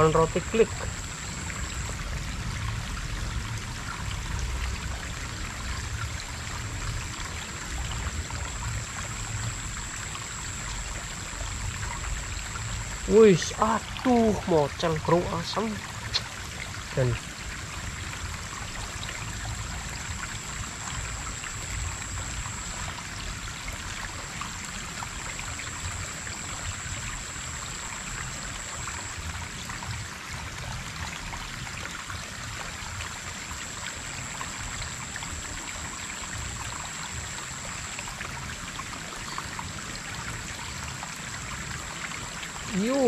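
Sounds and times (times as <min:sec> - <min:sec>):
high-pitched whine: 0:00.0 - 0:16.3, 0:18.6 - 0:40.7
stream water trickling: 0:00.0 - 0:43.0.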